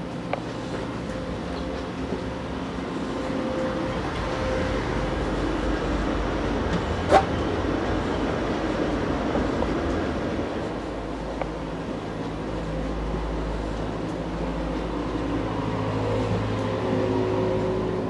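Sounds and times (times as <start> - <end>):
train car rumble and hum: 0.0 - 18.0.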